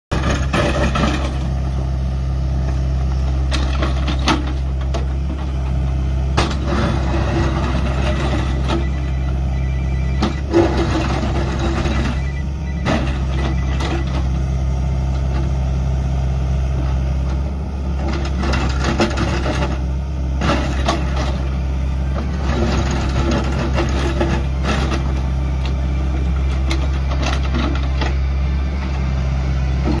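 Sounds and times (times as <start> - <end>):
excavator diesel engine running: 0.1 - 30.0.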